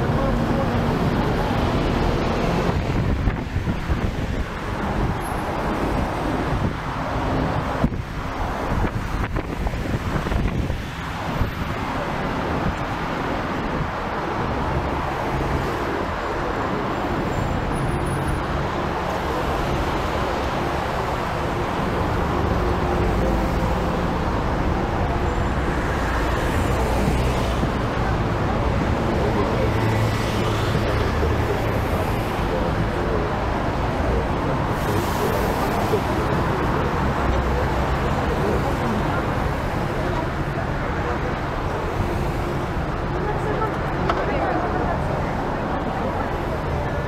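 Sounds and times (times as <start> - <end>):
bus engine with road noise: 0.0 - 47.0.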